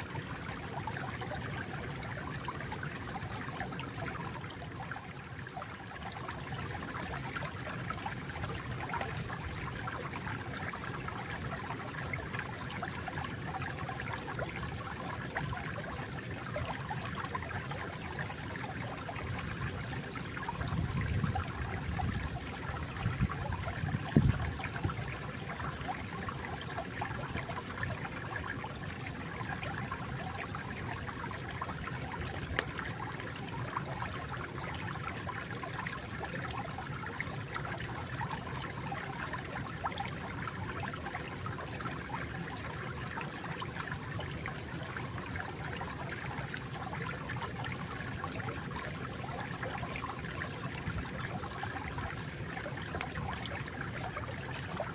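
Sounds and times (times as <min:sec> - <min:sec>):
stream water trickling and babbling: 0:00.0 - 0:54.9.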